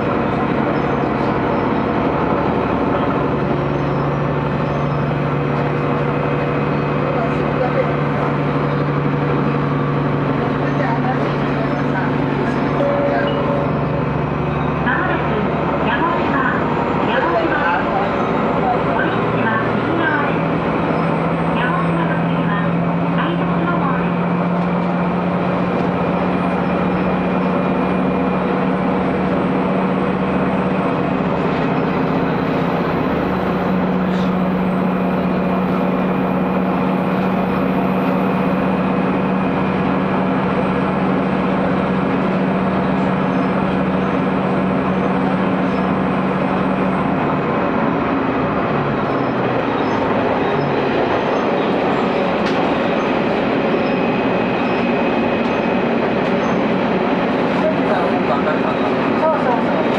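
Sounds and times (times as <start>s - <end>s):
diesel engine drone: 0.0s - 59.9s
train wheels running on rails: 0.0s - 59.9s.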